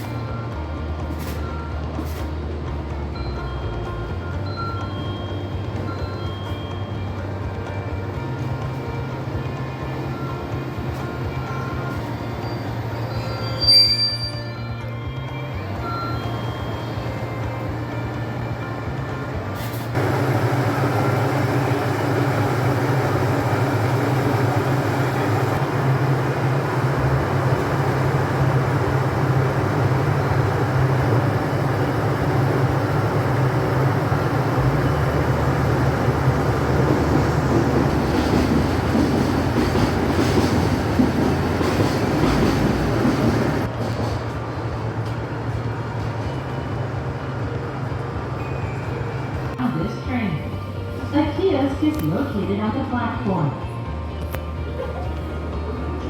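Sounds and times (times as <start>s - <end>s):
railcar engine low hum: 0.0s - 56.0s.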